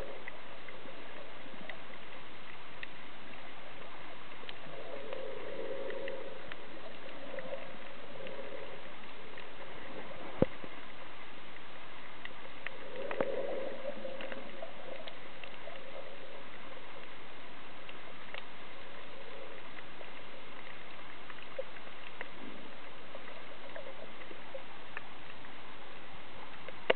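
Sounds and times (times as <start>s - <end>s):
faint clicks and crackles: 0.0s - 26.9s
muffled underwater noise: 0.0s - 26.9s.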